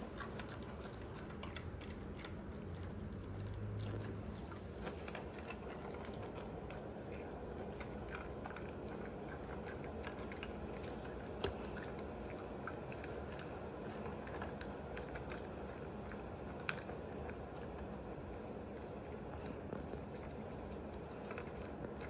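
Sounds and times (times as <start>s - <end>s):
dog crunching dry kibble: 0.0s - 22.0s.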